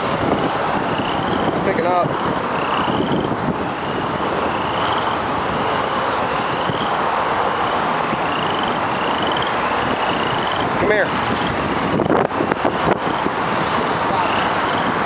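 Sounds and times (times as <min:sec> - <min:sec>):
gusty wind on microphone: 0:00.0 - 0:15.0
road traffic: 0:00.0 - 0:15.0.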